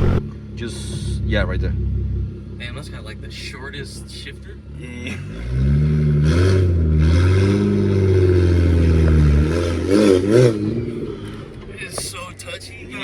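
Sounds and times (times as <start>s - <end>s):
turbocharged car engine accelerating: 0.0s - 13.0s.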